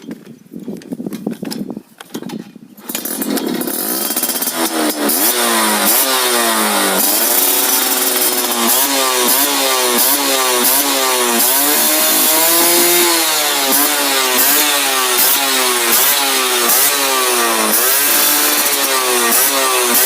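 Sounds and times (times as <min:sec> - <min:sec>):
two-stroke motorcycle engine revving: 0:02.8 - 0:20.0.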